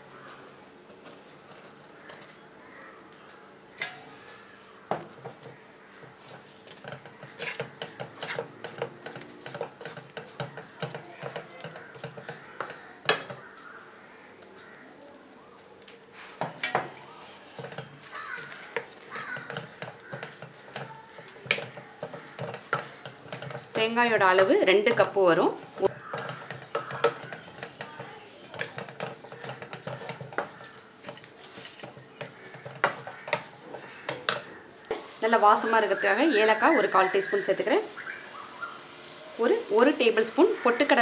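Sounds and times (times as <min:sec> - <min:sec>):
wooden spatula scraping pan: 0:03.8 - 0:13.5, 0:16.2 - 0:41.0.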